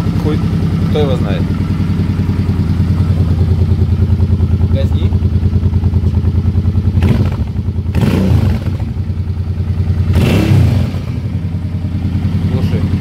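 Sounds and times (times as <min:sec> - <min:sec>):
motorcycle engine idling: 0:00.0 - 0:13.0
motorcycle engine revving: 0:00.0 - 0:13.0.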